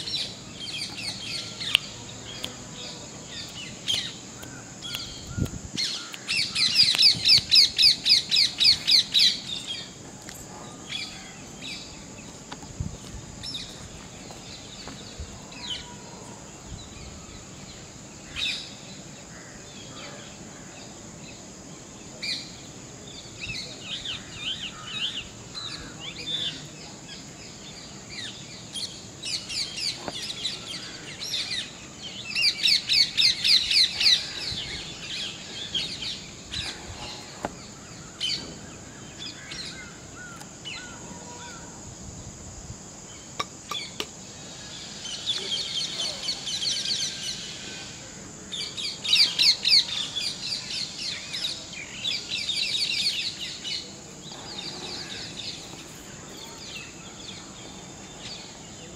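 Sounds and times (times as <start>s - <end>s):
birds chirping: 0.0s - 41.6s, 43.1s - 58.9s.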